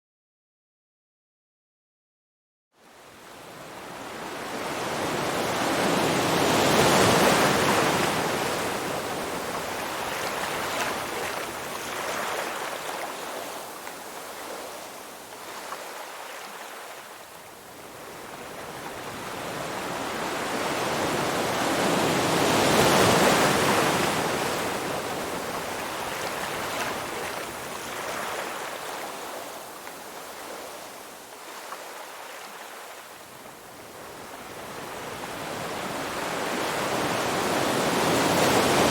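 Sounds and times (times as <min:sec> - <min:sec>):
ocean waves crashing on shore: 0:02.8 - 0:38.9.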